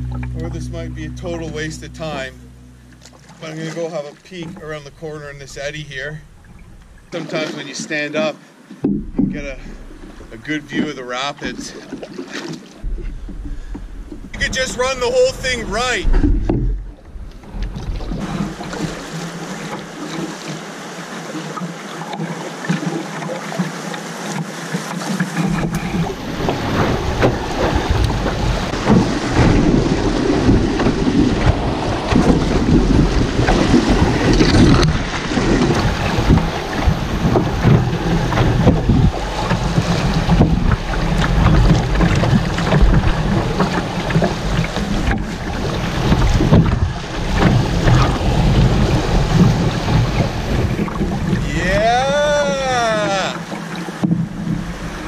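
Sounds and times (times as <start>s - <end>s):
rushing whitewater: 3.2s - 8.6s, 13.8s - 16.1s, 18.1s - 55.0s.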